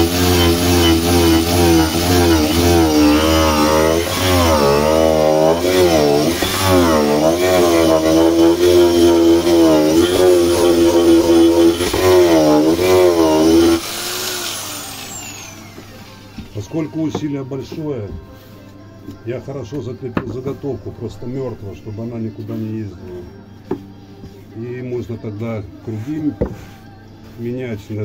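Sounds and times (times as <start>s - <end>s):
power grinder grinding wood: 0.0s - 23.9s, 24.6s - 28.0s.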